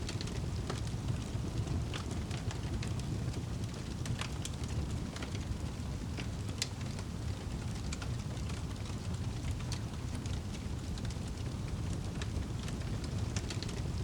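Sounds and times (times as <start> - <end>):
fire crackles and pops: 0.0 - 14.0
low roar of flames: 0.0 - 14.0.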